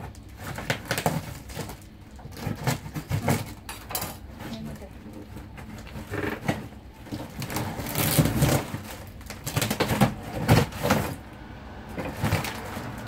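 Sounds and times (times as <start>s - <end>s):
cardboard box rustling and scraping: 0.0s - 13.0s.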